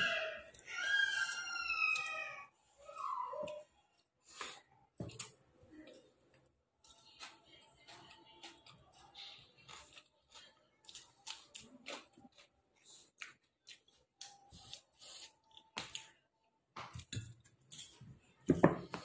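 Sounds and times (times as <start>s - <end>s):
person chewing food: 3.5s - 19.0s.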